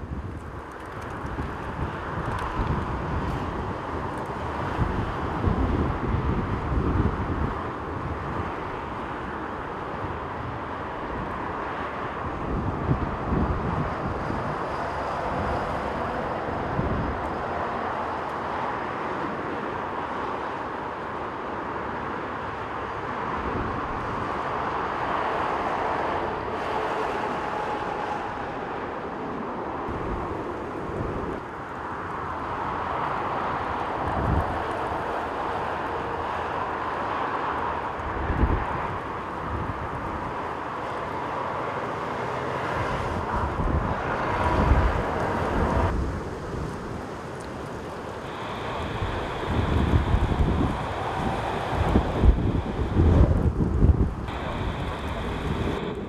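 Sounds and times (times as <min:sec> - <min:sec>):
gusty wind buffeting microphone: 0:00.0 - 0:56.0
jet engines rushing: 0:00.0 - 0:56.0.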